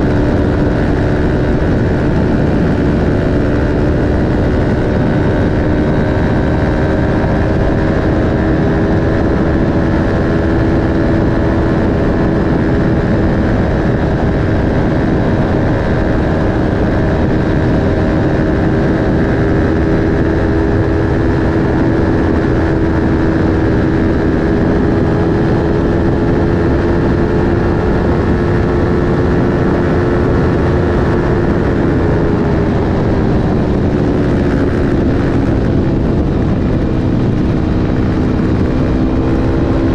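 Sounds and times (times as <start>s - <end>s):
motorcycle engine at high speed: 0.0s - 39.9s
wind rush: 0.0s - 39.9s.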